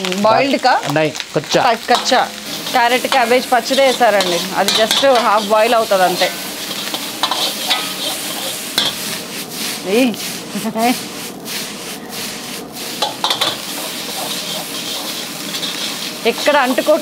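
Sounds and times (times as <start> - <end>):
rice sizzling in a wok: 0.0 - 17.0
spatula scraping and stirring: 1.8 - 17.0.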